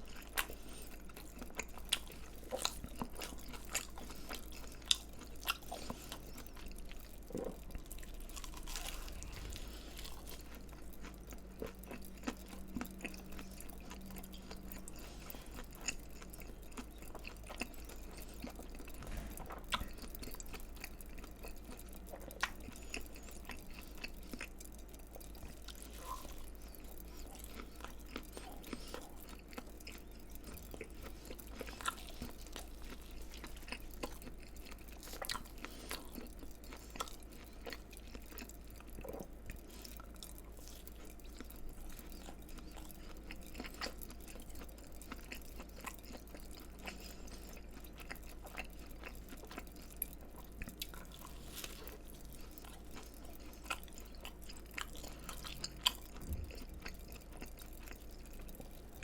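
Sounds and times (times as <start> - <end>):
chewing crunchy fried food: 0.0 - 59.0.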